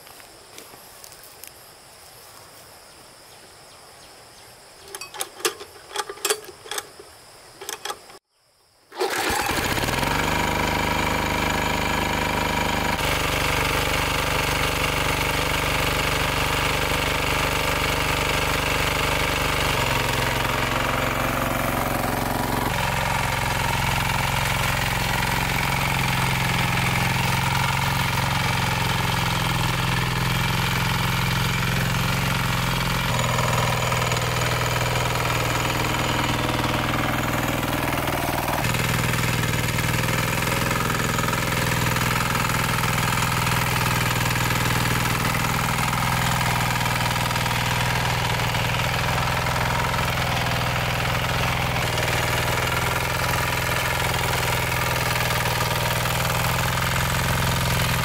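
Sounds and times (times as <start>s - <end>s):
engine running steadily: 9.0s - 58.0s.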